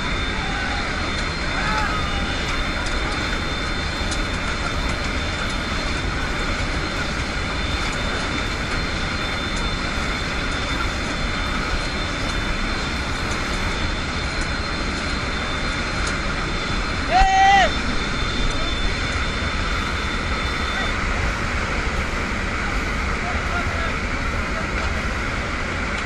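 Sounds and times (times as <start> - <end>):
aircraft engine running: 0.0 - 26.0.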